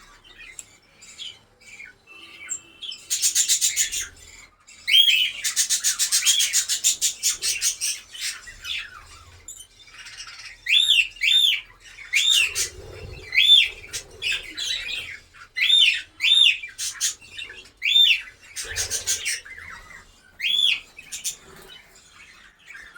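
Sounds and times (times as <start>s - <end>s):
parrots chirping and squawking: 0.0s - 22.9s.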